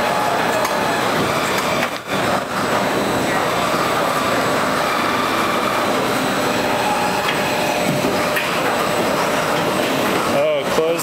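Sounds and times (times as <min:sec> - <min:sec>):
assembly line machinery whirring: 0:00.0 - 0:11.0.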